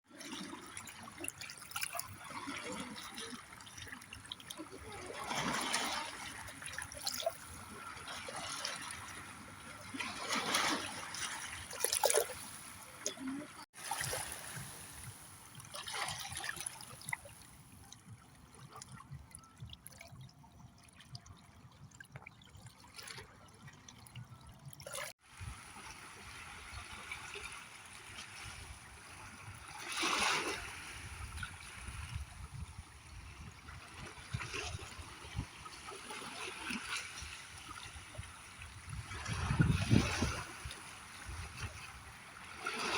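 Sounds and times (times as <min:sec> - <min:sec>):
small waves washing on shore: 0:00.1 - 0:17.9, 0:25.2 - 0:42.9.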